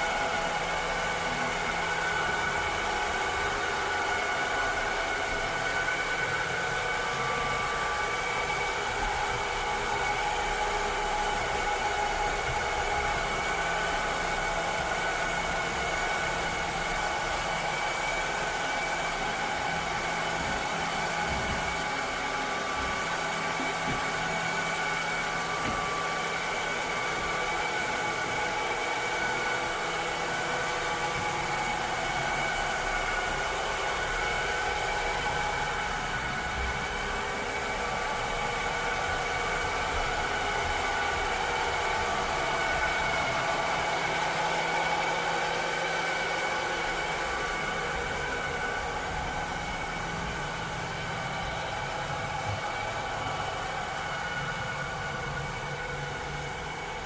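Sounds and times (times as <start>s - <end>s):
robot vacuum cleaner running: 0.0s - 57.0s.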